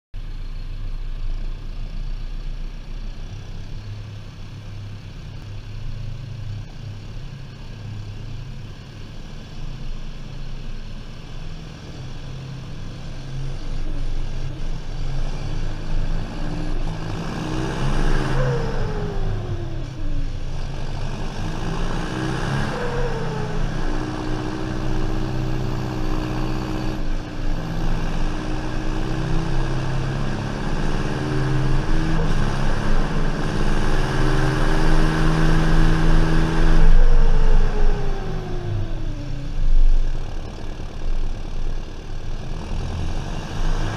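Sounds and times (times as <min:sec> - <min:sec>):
tractor diesel engine under load: 0:00.2 - 0:43.9.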